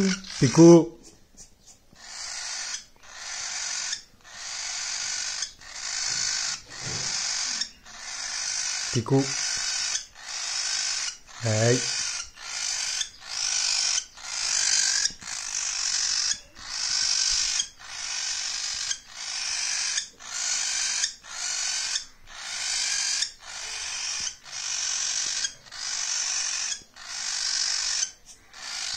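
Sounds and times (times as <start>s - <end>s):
bird chick scratchy begging calls: 0.0s - 28.9s.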